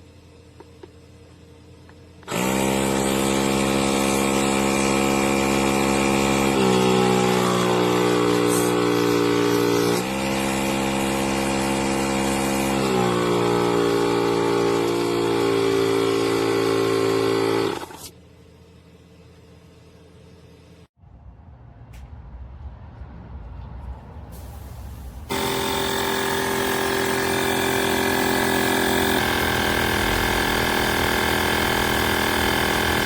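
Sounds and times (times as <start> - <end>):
tire inflator compressor running: 0.0 - 20.9, 25.3 - 33.0.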